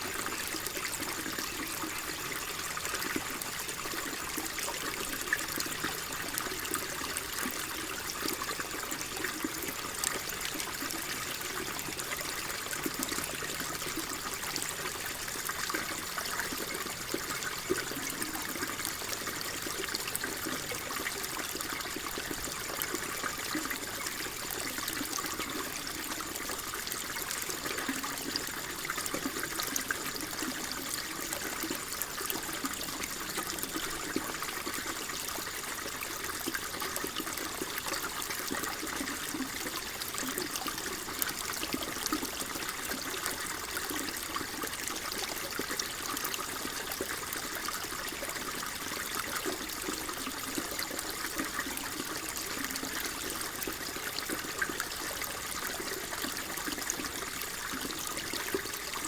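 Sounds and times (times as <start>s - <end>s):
water flowing and trickling: 0.0s - 59.0s.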